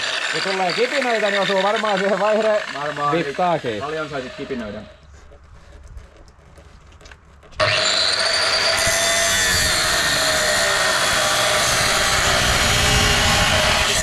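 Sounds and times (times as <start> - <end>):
angle grinder cutting steel: 0.0 - 5.0, 7.6 - 14.0.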